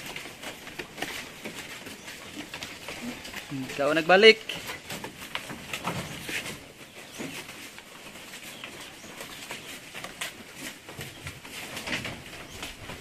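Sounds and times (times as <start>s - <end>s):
goats tearing leaves: 0.0s - 13.0s.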